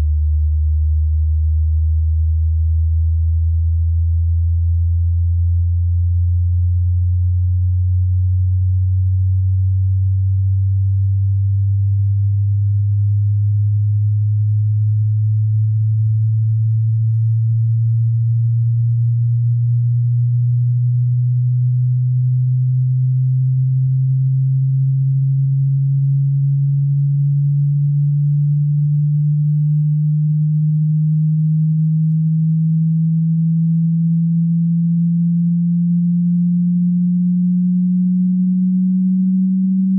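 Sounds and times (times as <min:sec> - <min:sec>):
rising sine-wave test tone: 0:00.0 - 0:39.9.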